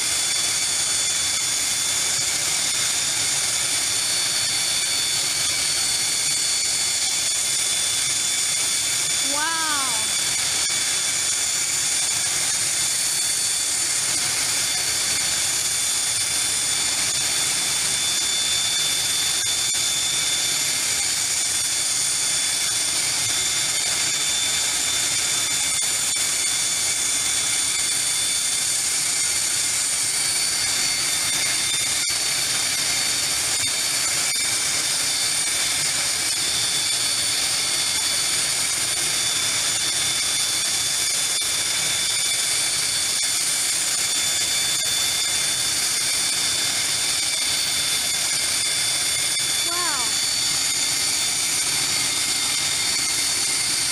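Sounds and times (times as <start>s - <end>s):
jet turbine engine whine: 0.0s - 53.9s.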